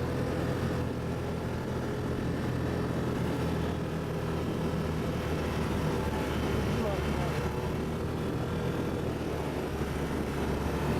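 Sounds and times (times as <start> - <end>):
atv engine humming: 0.0 - 10.9.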